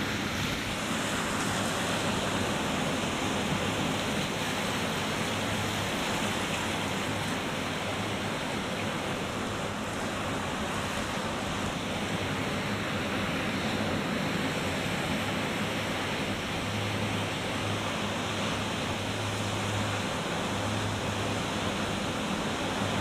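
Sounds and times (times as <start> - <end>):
ocean surf washing on beach: 0.0 - 23.0.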